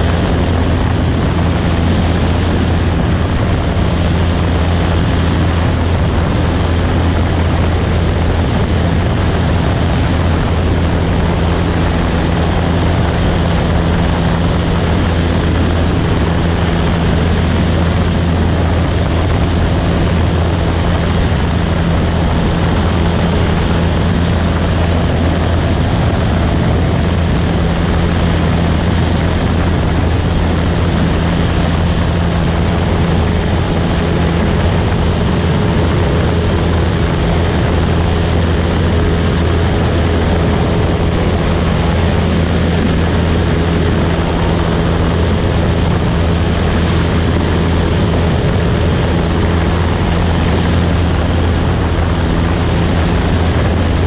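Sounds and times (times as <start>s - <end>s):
air rushing: 0.0s - 54.0s
light aircraft engine humming: 0.0s - 54.0s.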